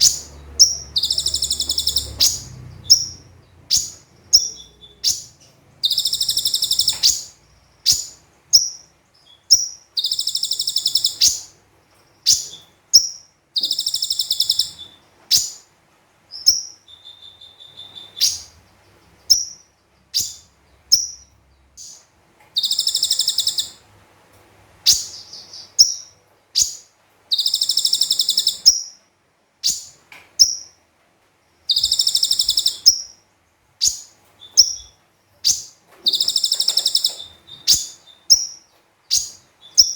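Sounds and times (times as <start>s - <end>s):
sharp bird chirps: 0.0s - 11.5s, 12.2s - 15.6s, 16.3s - 18.6s, 19.3s - 22.0s, 22.6s - 23.8s, 24.9s - 29.0s, 29.6s - 30.8s, 31.6s - 33.2s, 33.8s - 39.9s
bird singing high rapid trills: 0.0s - 11.6s, 12.2s - 15.7s, 16.3s - 23.8s, 24.8s - 29.0s, 29.6s - 30.8s, 31.6s - 39.9s.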